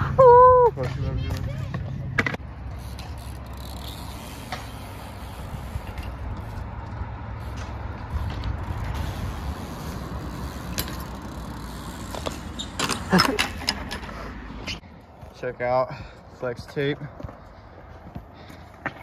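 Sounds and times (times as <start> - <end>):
wheels rolling on concrete: 0.0 - 19.0.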